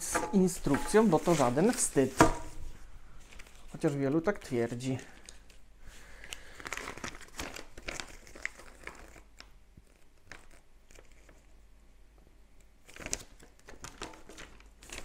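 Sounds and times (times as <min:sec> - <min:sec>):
paper rustling and crinkling: 0:00.2 - 0:11.5, 0:12.8 - 0:15.0.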